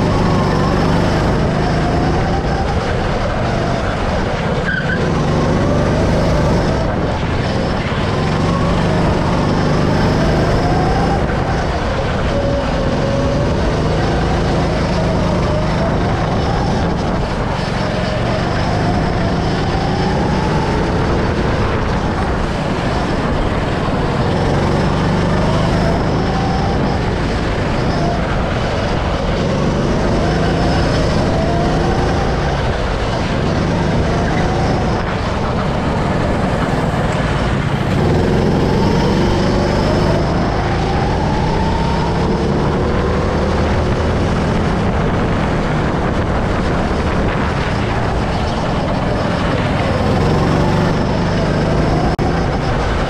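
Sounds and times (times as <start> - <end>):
go-kart engine accelerating: 0.0 - 53.0
road and wind noise: 0.0 - 53.0.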